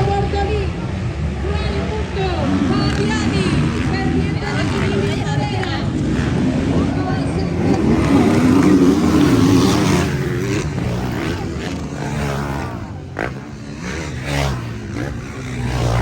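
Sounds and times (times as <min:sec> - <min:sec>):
motocross bikes revving: 0:00.0 - 0:16.0.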